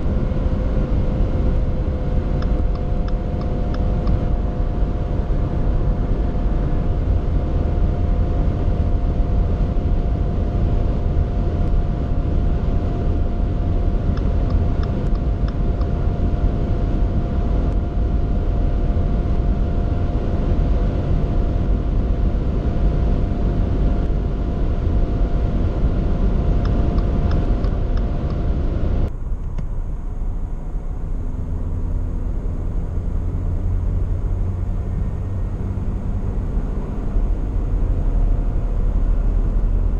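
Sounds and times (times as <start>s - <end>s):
car engine droning at high revs: 0.0s - 39.9s
wind and road noise: 0.0s - 39.9s.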